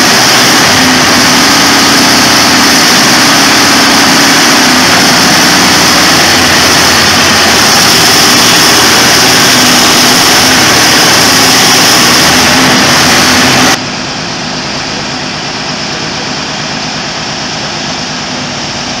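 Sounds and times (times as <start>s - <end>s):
excavator diesel engines running: 0.0s - 19.0s.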